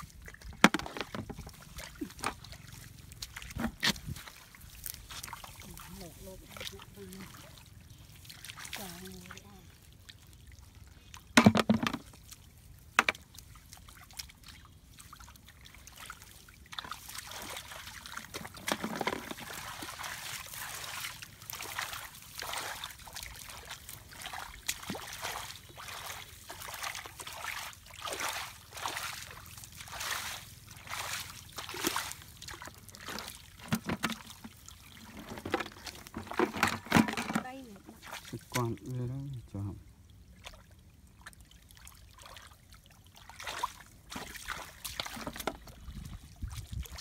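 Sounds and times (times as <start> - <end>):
muddy water splashing: 0.0 - 47.0.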